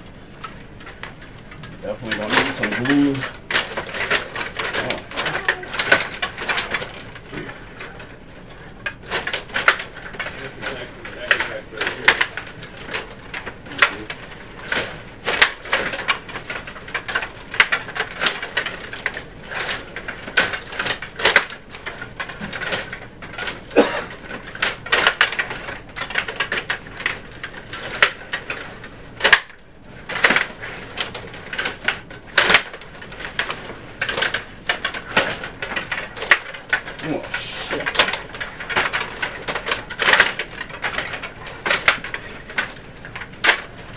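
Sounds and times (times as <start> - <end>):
table hockey rods and puck clacking: 0.0 - 43.9.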